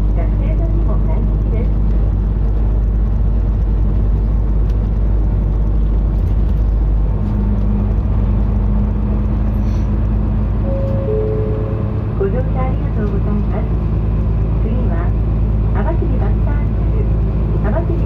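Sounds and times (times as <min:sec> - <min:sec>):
bus engine and road rumble: 0:00.0 - 0:18.0
low engine hum: 0:00.0 - 0:18.0.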